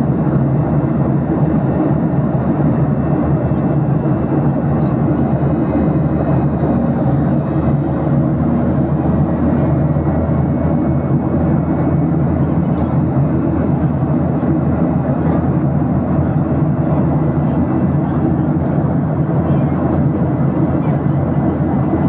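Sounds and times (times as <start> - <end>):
airplane low drone: 0.0 - 22.0.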